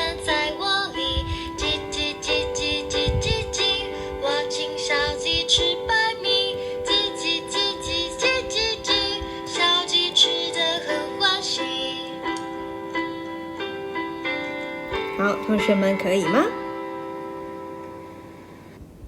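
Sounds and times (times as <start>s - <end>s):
children's song singing: 0.0s - 18.1s
held accompaniment: 0.0s - 18.8s.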